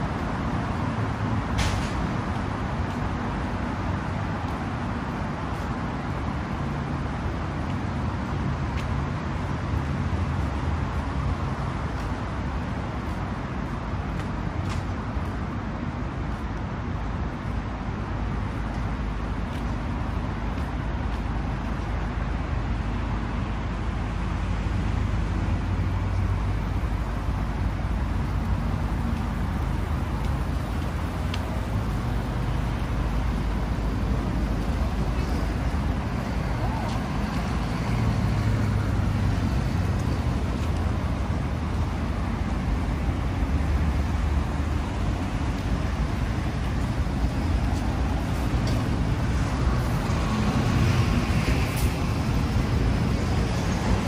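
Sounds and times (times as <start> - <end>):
city street traffic rumble: 0.0 - 54.0.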